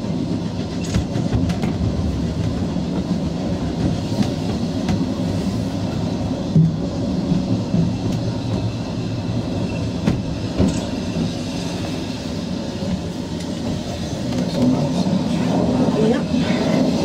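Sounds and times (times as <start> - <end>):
train wheels rumbling on rail: 0.0 - 17.0
rail joint clicks: 0.1 - 12.1, 12.7 - 15.1.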